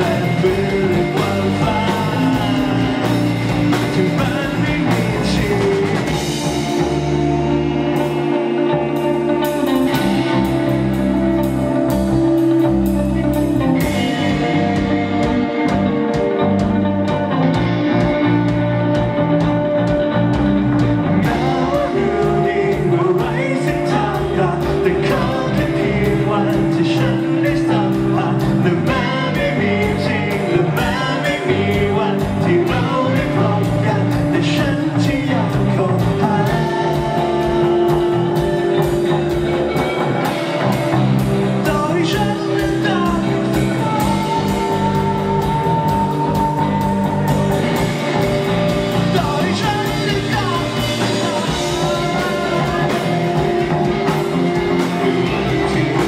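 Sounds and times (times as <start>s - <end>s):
person singing: 0.0s - 20.0s, 21.0s - 56.0s
electric guitars: 0.0s - 56.0s.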